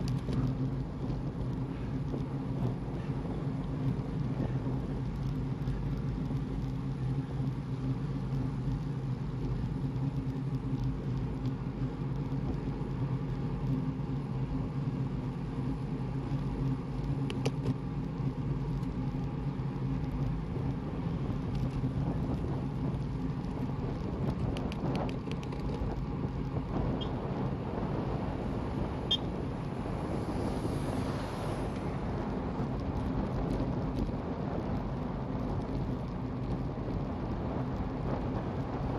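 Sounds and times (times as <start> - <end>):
vehicle engine running: 0.0 - 38.9
wind rumble on microphone: 0.0 - 38.9.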